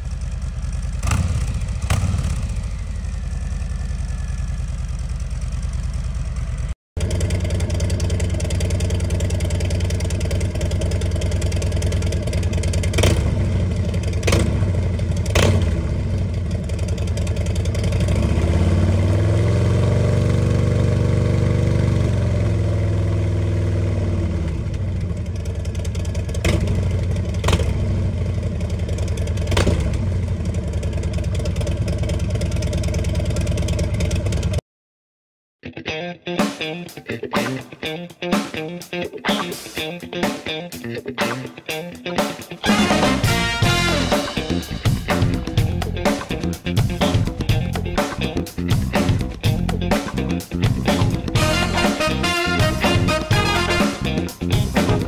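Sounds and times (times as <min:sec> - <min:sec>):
motorcycle engine idling and revving: 0:00.0 - 0:34.6, 0:42.6 - 0:55.0.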